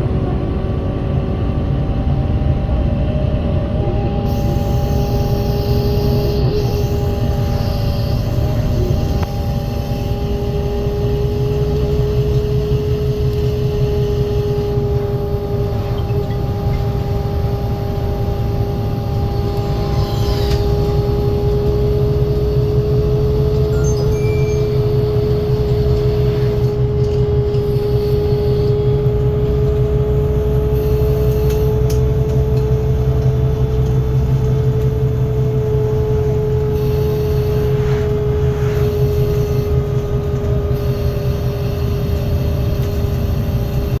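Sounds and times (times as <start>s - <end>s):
bus engine low rumble: 0.0s - 44.0s
steady engine whine: 0.0s - 44.0s.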